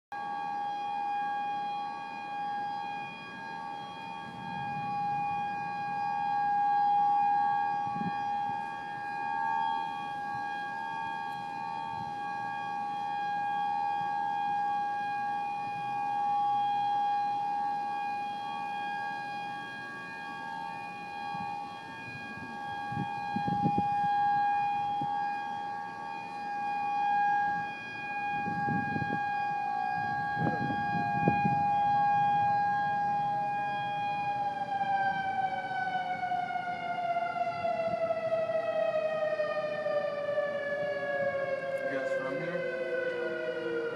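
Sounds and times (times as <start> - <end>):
two-note storm siren wail: 0.1 - 43.9.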